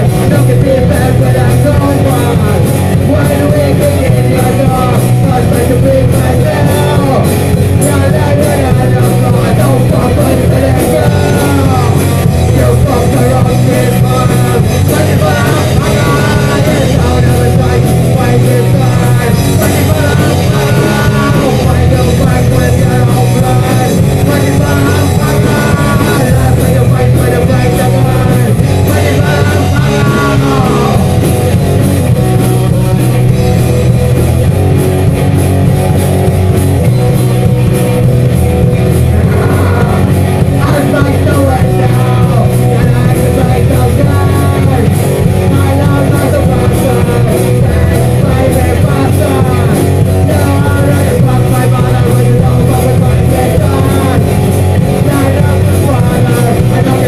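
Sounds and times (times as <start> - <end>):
person singing: 0.0 - 32.2, 37.7 - 57.0
bass guitar: 0.0 - 57.0
drums playing: 0.0 - 57.0
electric guitar: 0.0 - 57.0.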